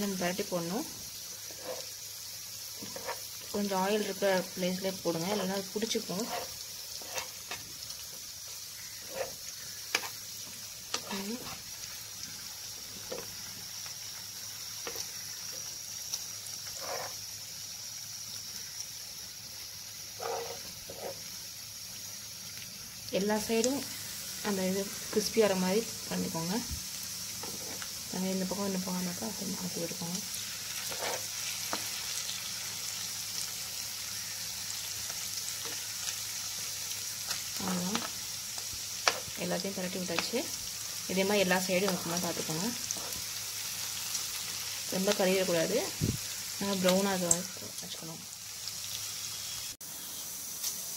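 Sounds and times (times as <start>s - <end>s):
food sizzling in oil: 0.0s - 50.9s.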